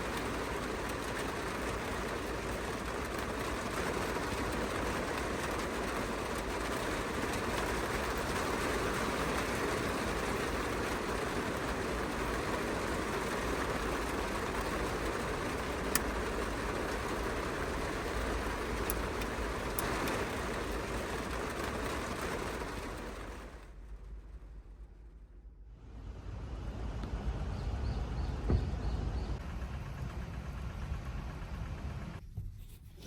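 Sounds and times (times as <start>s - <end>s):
vehicle road and engine noise: 0.0s - 32.3s.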